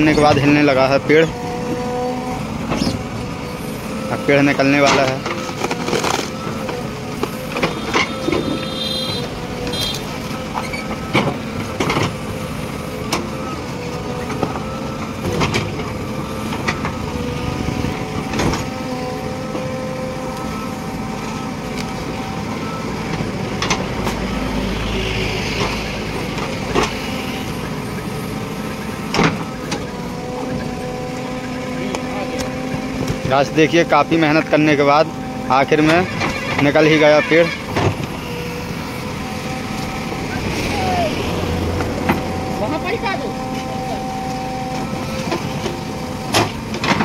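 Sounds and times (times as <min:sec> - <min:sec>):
diesel engine running under load: 0:00.0 - 0:47.0.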